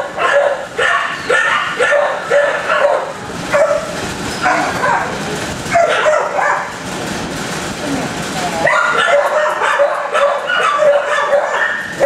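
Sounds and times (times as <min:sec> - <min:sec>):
dogs barking: 0:00.0 - 0:06.8, 0:08.6 - 0:12.0.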